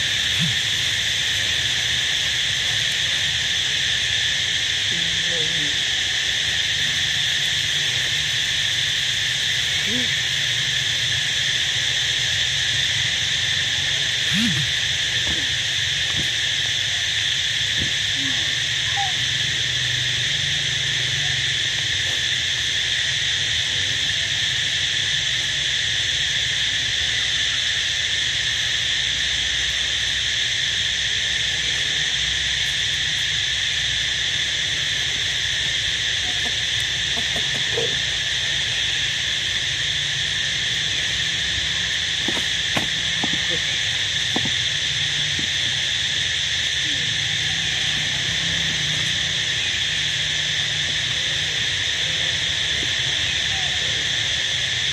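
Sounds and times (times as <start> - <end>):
insect chorus drone: 0.0 - 54.9.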